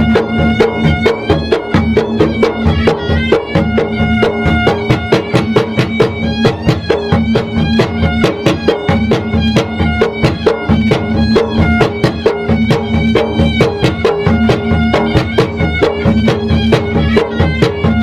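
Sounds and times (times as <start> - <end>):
two-headed drums beaten fast: 0.0 - 18.0.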